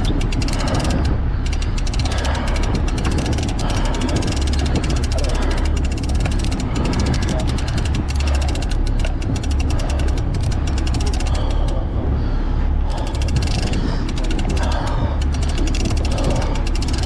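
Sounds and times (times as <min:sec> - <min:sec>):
fishing reel clicking rapidly: 0:00.0 - 0:11.8, 0:12.9 - 0:17.0
steady low drone: 0:00.0 - 0:17.0.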